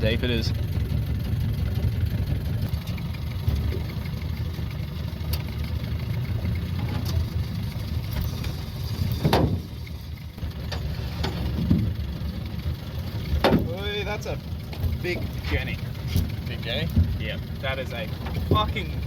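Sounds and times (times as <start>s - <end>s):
outboard motor low rumble: 0.0s - 19.0s.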